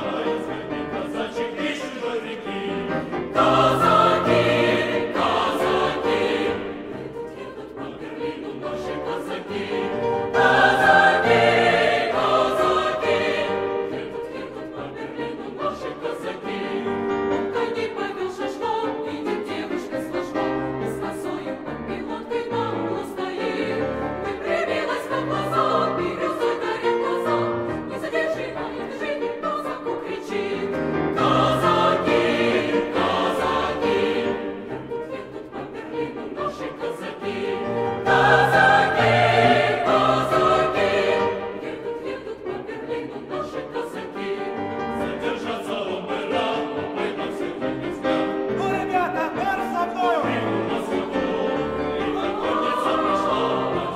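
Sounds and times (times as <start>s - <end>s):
choir singing: 0.0s - 53.9s
grand piano accompaniment: 0.0s - 53.9s.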